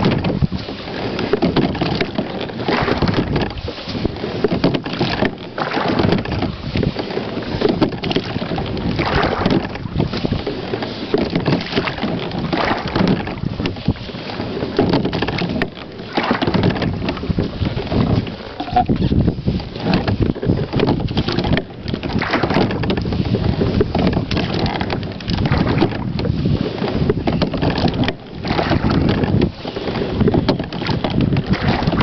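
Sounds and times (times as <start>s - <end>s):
oars rowing through water: 0.0s - 32.0s
wind noise on microphone: 0.0s - 32.0s.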